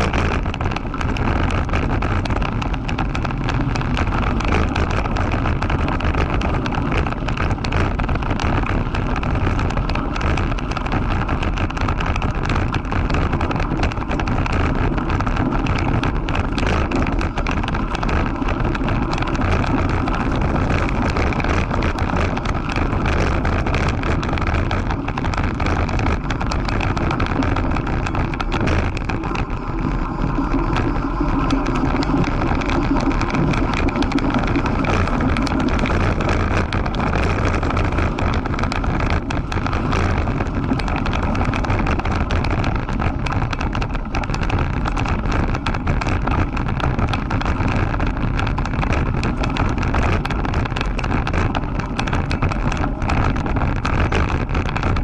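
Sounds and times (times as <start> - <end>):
bike rattling: 0.0 - 55.0
wind buffeting microphone: 0.0 - 55.0.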